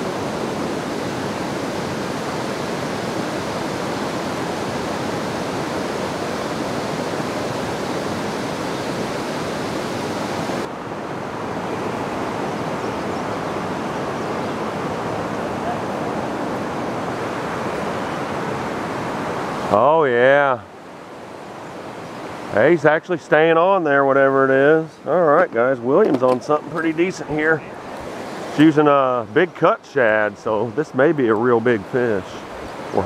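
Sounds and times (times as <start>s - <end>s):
river rushing over rapids: 0.0s - 33.0s.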